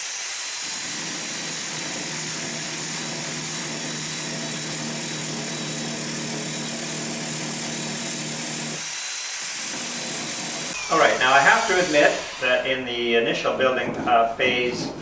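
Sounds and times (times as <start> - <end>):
electric belt sander on wood: 0.0 - 13.1.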